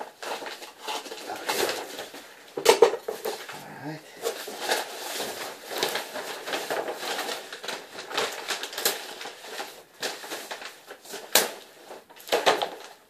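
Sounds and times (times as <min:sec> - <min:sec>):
underlayment sheet crinkling: 0:00.0 - 0:13.0.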